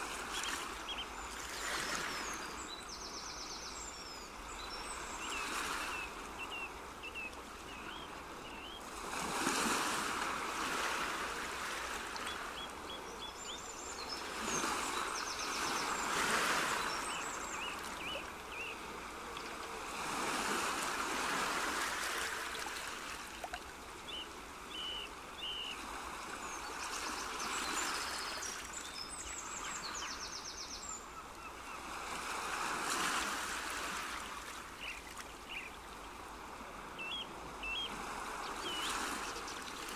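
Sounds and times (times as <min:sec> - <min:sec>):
rushing water: 0:00.0 - 0:03.0, 0:03.7 - 0:39.9.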